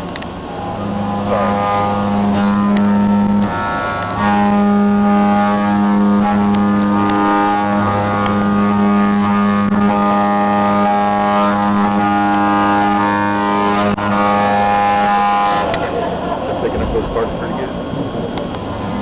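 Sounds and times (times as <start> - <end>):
milling machine cutter whine: 0.0 - 19.0.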